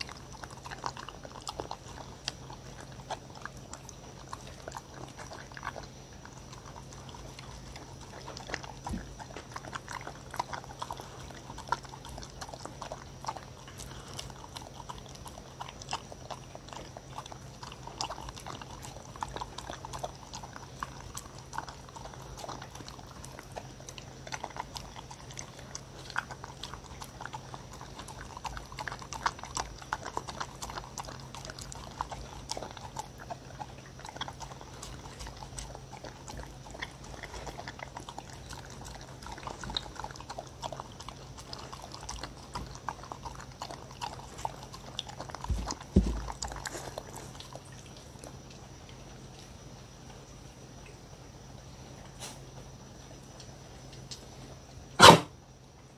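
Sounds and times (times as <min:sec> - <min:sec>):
dog licking from wooden bowl: 0:00.0 - 0:48.2.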